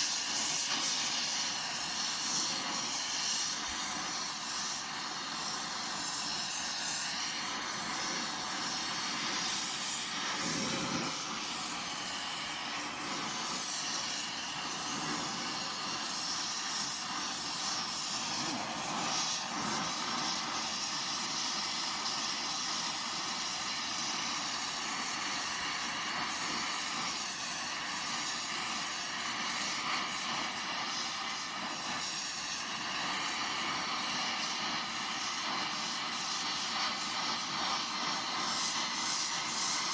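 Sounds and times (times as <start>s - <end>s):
blow torch hissing: 0.0s - 39.9s.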